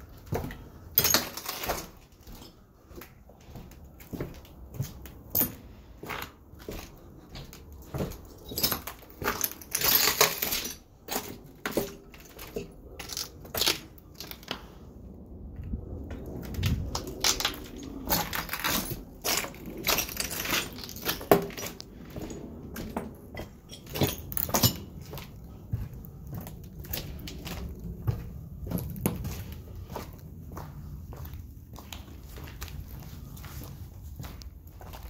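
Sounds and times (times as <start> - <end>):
footsteps crunching over broken glass: 0.1 - 14.6, 16.4 - 35.0.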